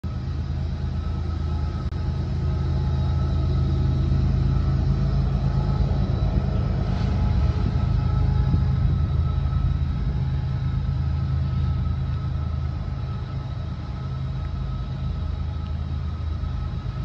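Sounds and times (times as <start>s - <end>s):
faint steady tones: 0.0s - 17.0s
train rumbling: 0.0s - 17.0s.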